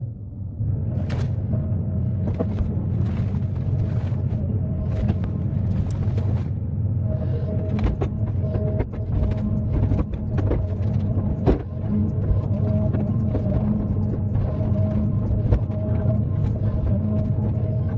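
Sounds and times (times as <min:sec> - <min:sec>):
excavator diesel engine running: 0:00.7 - 0:17.9.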